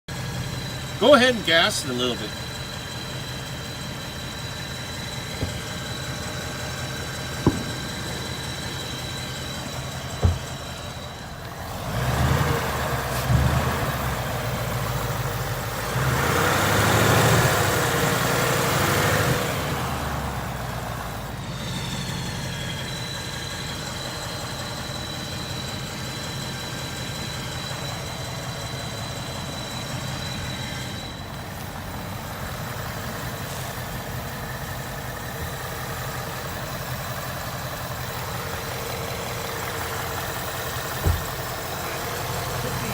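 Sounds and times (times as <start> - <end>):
car engine idling and revving: 0.0 - 42.9.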